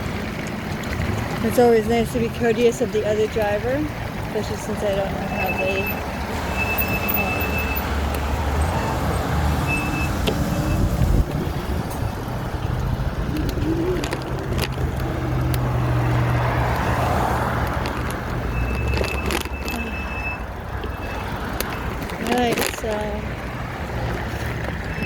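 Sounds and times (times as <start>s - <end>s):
constant rushing noise: 0.0s - 25.0s.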